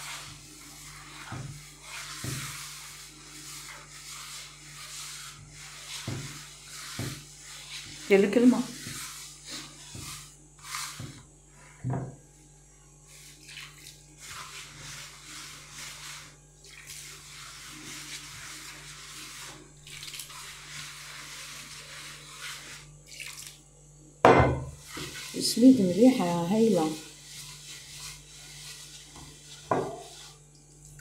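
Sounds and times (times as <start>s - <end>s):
hands kneading wet dough: 0.0s - 12.3s, 13.1s - 23.7s, 24.7s - 31.0s.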